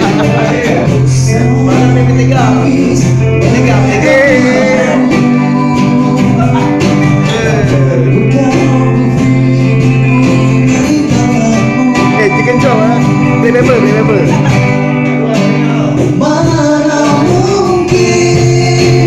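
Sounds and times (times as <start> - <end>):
man singing: 0.0 - 19.0
strummed acoustic guitars: 0.0 - 19.0.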